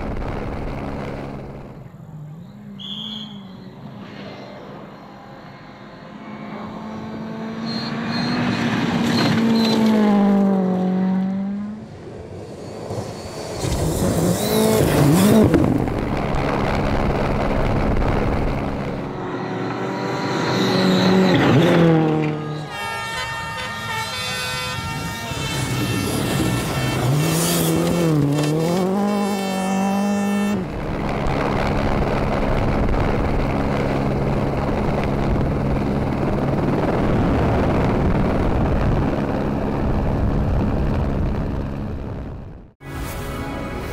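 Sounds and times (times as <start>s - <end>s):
rally cars passing at full throttle: 0.0s - 43.9s.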